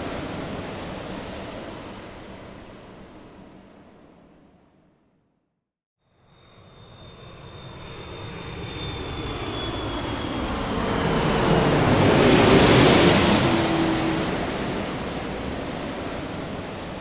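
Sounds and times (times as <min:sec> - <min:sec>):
jet aircraft engines: 0:00.0 - 0:04.6, 0:06.2 - 0:17.0.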